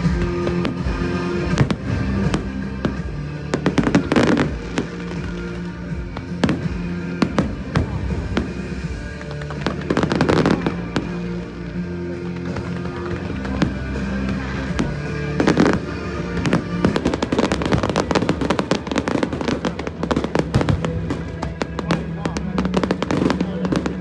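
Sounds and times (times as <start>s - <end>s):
fireworks bangs: 0.0s - 24.0s
fireworks crackling: 0.0s - 24.0s
music: 0.0s - 24.0s.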